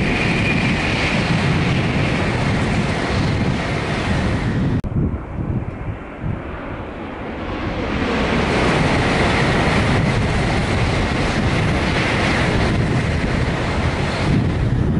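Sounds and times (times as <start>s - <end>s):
high-speed train rushing past: 0.0s - 14.9s.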